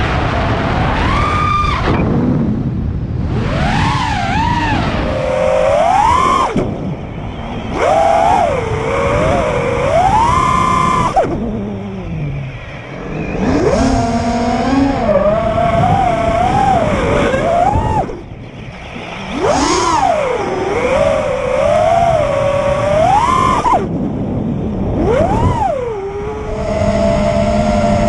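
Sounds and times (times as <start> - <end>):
quadcopter motors whining: 3.2 - 28.0.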